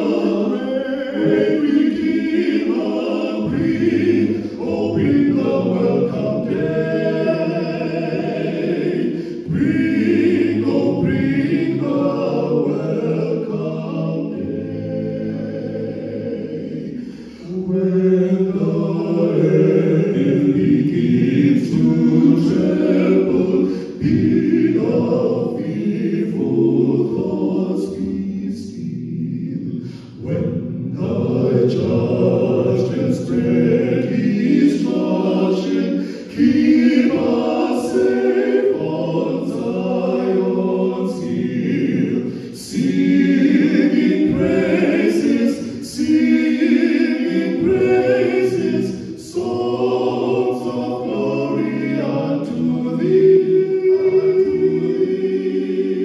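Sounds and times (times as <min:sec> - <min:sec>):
male vocal quartet singing a hymn: 0:00.0 - 0:56.0.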